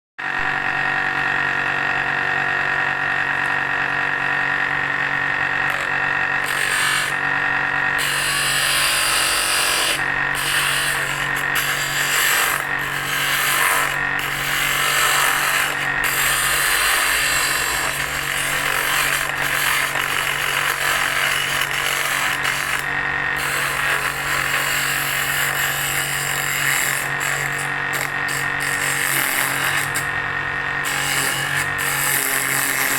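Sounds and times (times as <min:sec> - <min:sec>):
drill press motor hum: 0:00.2 - 0:32.9
tool rasping on wood: 0:05.6 - 0:30.2, 0:30.8 - 0:32.9.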